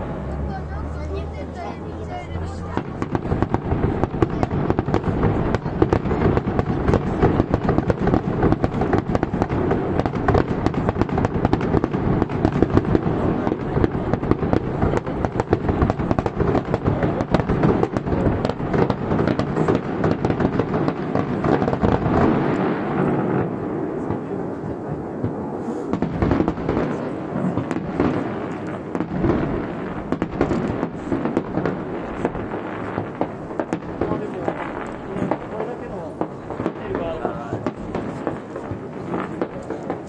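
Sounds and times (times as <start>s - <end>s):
fireworks bangs and crackle: 0.0s - 40.0s.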